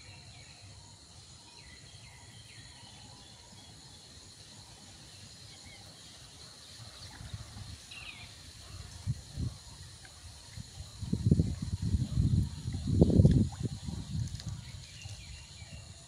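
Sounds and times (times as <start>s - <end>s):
insect hum: 0.0s - 16.0s.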